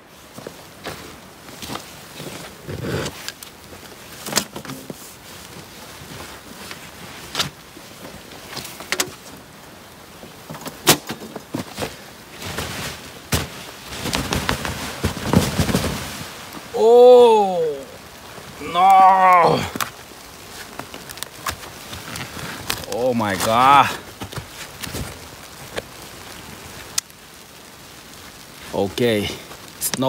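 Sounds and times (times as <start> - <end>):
tarp fabric rustling and scraping: 0.0 - 30.0.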